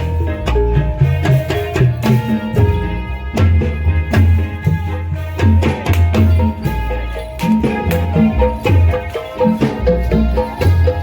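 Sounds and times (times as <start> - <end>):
ringing pitched percussion notes: 0.0 - 11.0.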